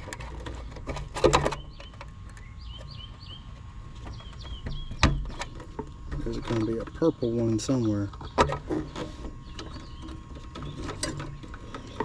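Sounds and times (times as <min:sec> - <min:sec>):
faint low hum: 0:00.0 - 0:12.0
bird chirping: 0:01.5 - 0:12.0.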